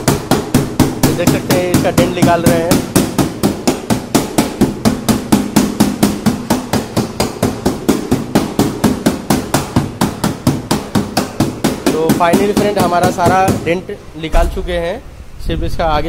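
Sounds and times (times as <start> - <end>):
metal taps on sheet-steel panel: 0.0 - 14.8.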